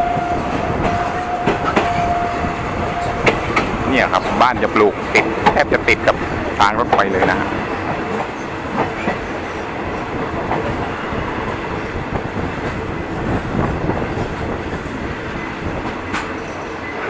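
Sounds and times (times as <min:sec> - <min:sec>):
train coach rumbling and rattling: 0:00.0 - 0:17.0.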